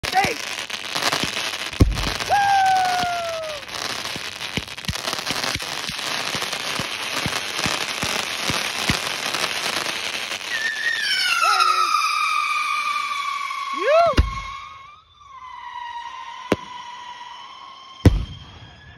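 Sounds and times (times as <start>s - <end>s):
firework crackling hiss: 0.0s - 18.9s
firework falling whistle: 0.1s - 18.9s.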